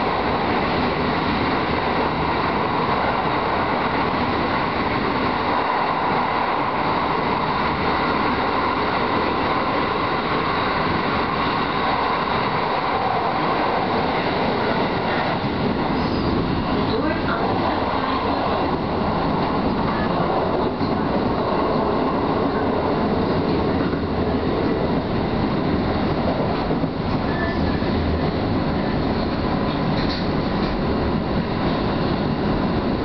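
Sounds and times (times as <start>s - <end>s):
train wheels on rails in tunnel: 0.0s - 33.0s.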